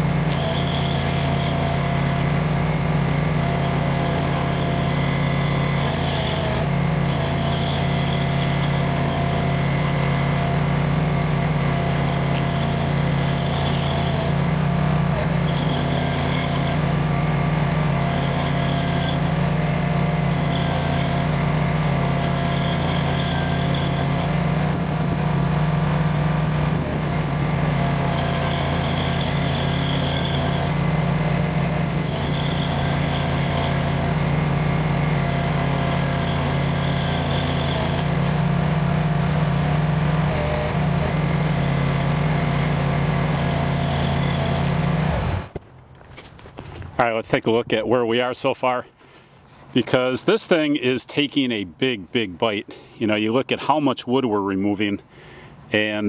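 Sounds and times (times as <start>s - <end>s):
stump grinder engine running: 0.0s - 45.6s
cutter wheel grinding stump: 0.0s - 47.1s.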